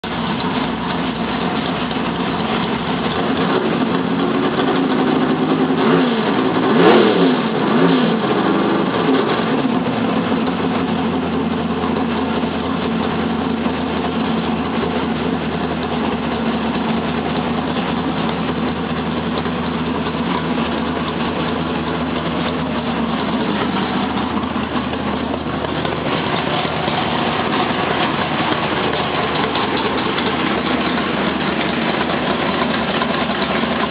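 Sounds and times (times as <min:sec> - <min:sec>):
car engine revving and idling: 0:00.0 - 0:33.9.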